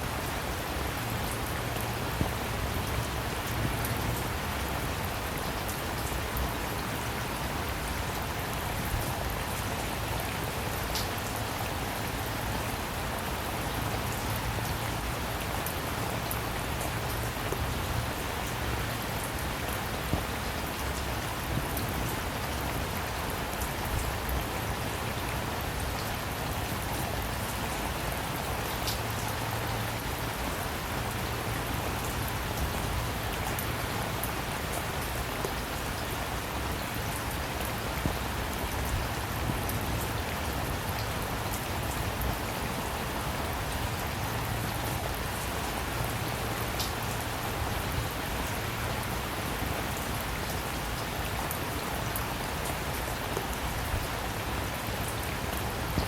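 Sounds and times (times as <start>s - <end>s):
steady rainfall hiss: 0.0s - 56.0s.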